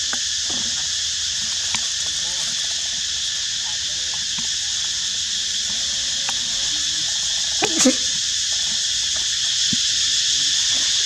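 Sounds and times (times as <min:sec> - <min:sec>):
forest insects hissing: 0:00.0 - 0:11.0.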